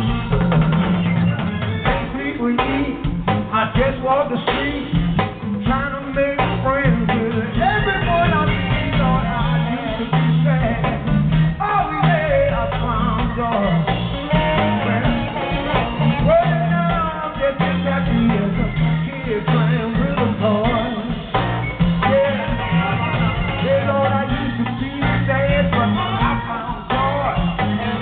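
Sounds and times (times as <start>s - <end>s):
drums: 0.0s - 28.0s
electric guitar: 0.0s - 28.0s
hand drums: 0.0s - 28.0s
live band with singing: 0.0s - 28.0s.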